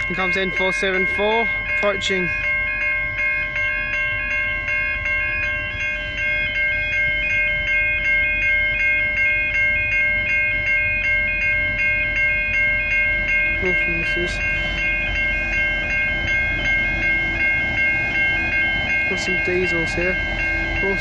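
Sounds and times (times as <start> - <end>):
diesel locomotive rumble: 0.0 - 21.0
level crossing warning bells: 0.0 - 21.0.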